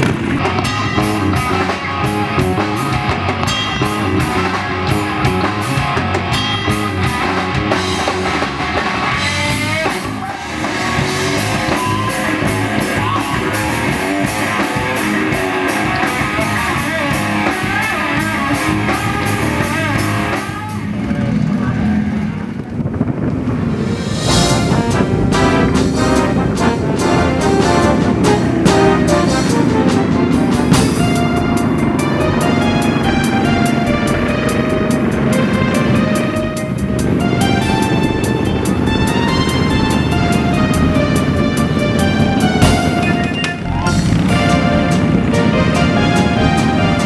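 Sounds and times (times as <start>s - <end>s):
drum kit beat: 0.0s - 20.6s, 23.7s - 47.0s
electric guitar: 0.0s - 47.0s.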